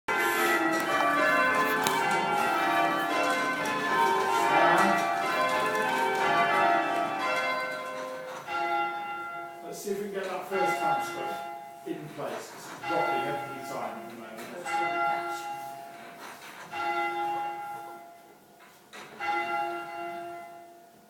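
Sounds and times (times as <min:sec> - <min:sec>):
church bells ringing: 0:00.1 - 0:21.0.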